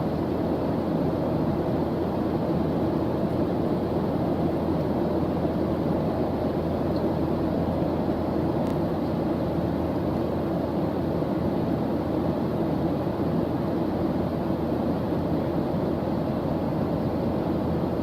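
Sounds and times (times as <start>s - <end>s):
steady white noise hiss: 0.0s - 18.0s.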